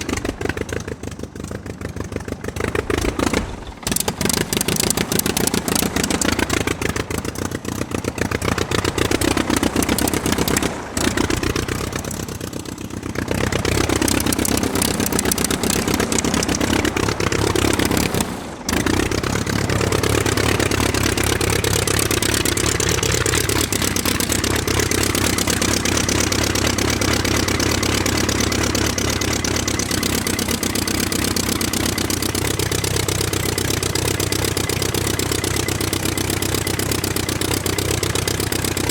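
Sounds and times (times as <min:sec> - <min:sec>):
piston engine revving: 0:00.0 - 0:38.9.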